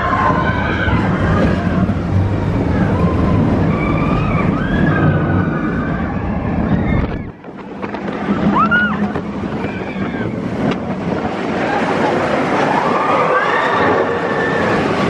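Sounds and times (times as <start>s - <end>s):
roller coaster rumbling: 0.0s - 15.0s
wind on microphone: 0.0s - 15.0s.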